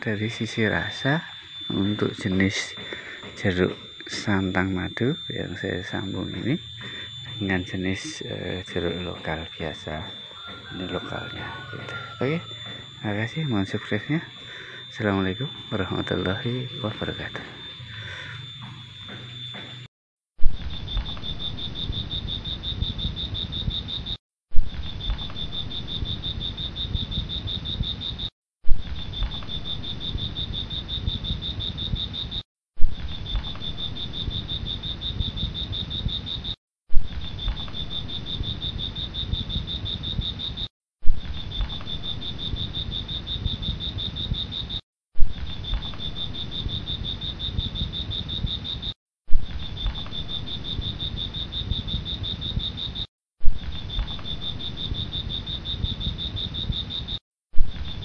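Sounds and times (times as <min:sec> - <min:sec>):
insects chirring: 0:00.0 - 0:19.9, 0:20.5 - 0:32.4, 0:33.0 - 0:58.0.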